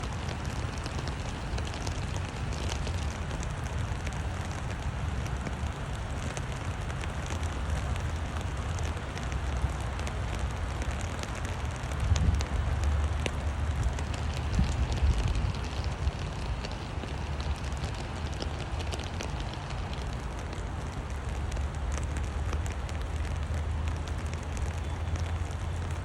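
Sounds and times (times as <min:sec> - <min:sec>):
rain drop ticks: 0:00.0 - 0:26.0
steady rain falling: 0:00.0 - 0:26.0
wind rumble on microphone: 0:00.0 - 0:26.0.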